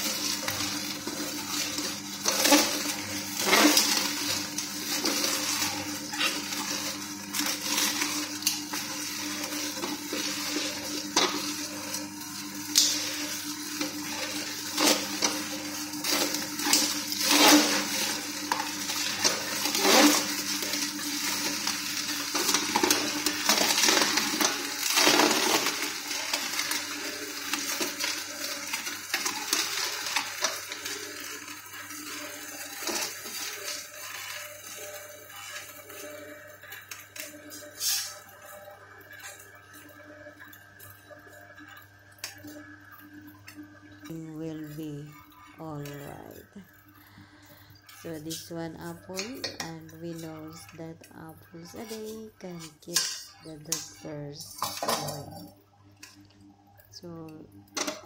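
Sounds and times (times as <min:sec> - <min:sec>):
juicer motor hum: 0:00.0 - 0:58.0.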